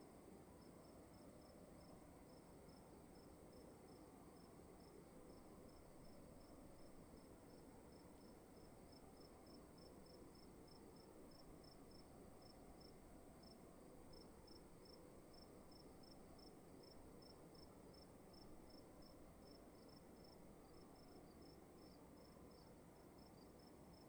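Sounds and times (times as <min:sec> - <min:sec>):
faint cricket chirping: 0:00.0 - 0:24.0
low room tone hiss: 0:00.0 - 0:24.0.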